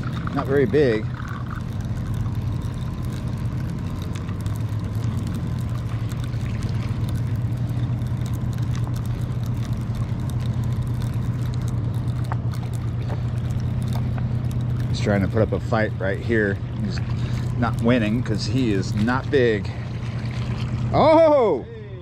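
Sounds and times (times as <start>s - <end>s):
fishing reel ticking: 0.0s - 19.6s
low engine drone: 0.0s - 22.0s.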